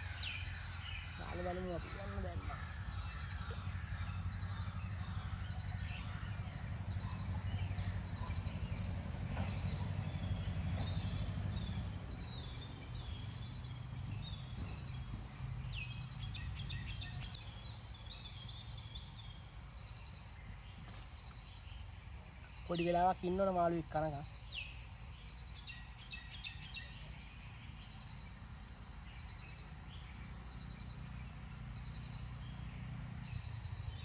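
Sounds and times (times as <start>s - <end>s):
birds chirping: 0.0s - 34.0s
low steady rumble: 0.0s - 34.0s.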